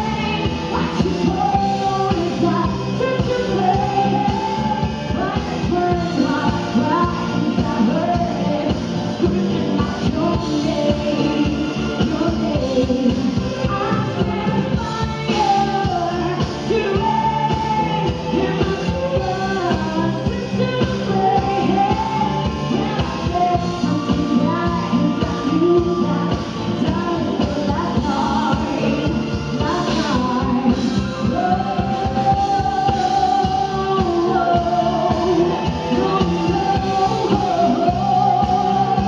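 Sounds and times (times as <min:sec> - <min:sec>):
woman singing: 0:00.0 - 0:39.0.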